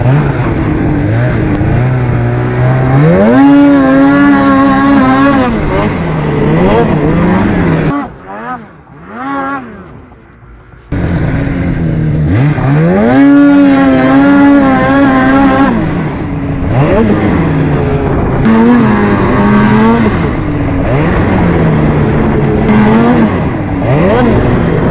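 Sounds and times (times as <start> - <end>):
snowmobile engine revving: 0.0 - 24.9.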